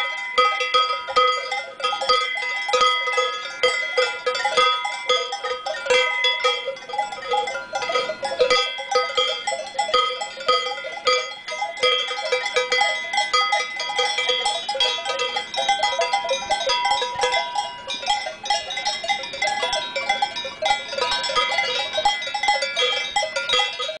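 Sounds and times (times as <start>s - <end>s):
cowbells clanking: 0.0s - 24.0s.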